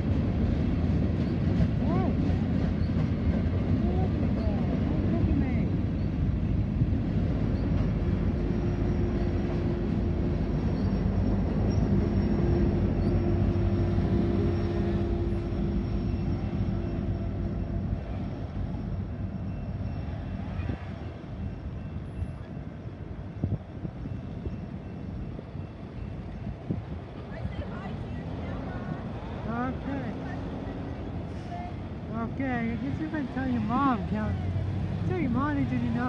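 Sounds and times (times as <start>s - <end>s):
freight train cars rumbling: 0.0s - 36.0s
locomotive engine drone: 0.0s - 36.0s.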